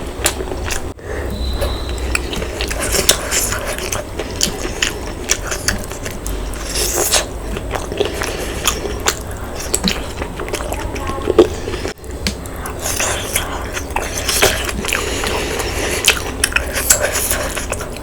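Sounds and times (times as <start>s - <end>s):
chewing with wet mouth smacks: 0.0s - 18.0s.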